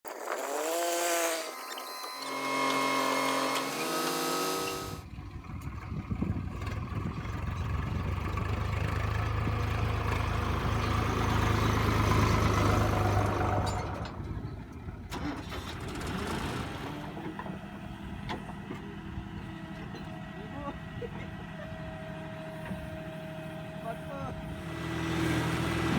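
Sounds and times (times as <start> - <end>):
heavy machinery diesel engine: 2.2 - 25.9.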